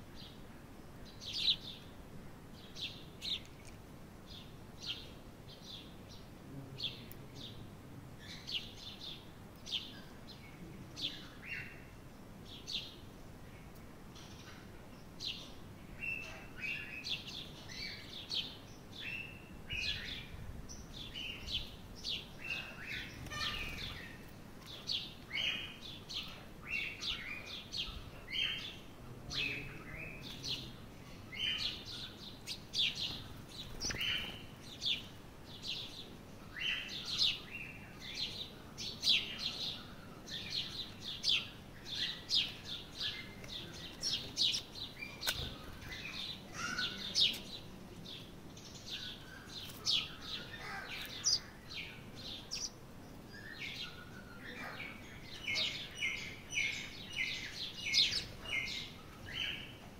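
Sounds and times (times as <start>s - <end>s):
birds chirping: 0.1s - 59.9s.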